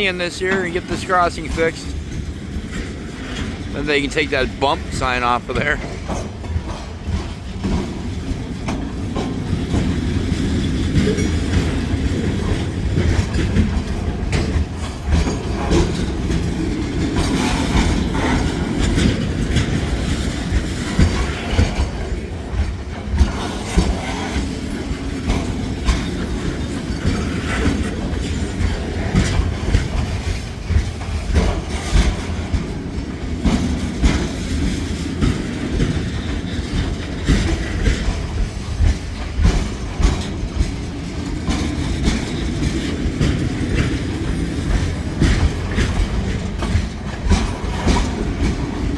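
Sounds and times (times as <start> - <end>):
freight train rumbling: 0.0 - 48.9
train wheels clacking: 0.0 - 48.9.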